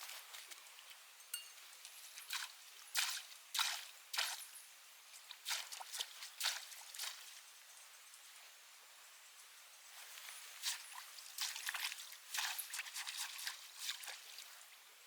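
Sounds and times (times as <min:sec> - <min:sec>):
water splashes and drips: 0:00.0 - 0:08.0, 0:10.0 - 0:14.8.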